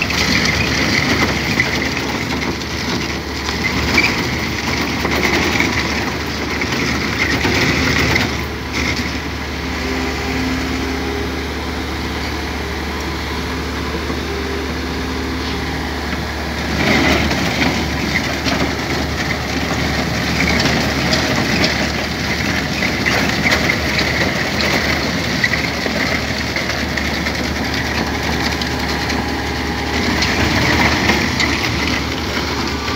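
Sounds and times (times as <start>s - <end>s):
drum cutter grinding concrete: 0.0s - 32.9s
excavator engine running: 0.0s - 32.9s.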